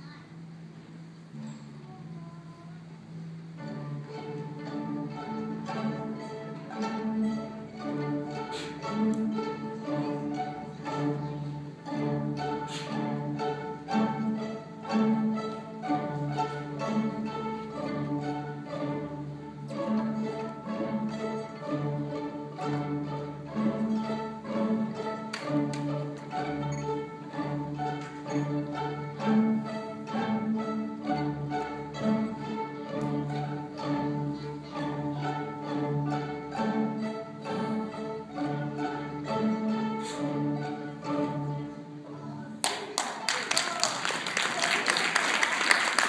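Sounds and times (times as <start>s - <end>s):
plucked strings pizzicato: 0.9s - 42.8s.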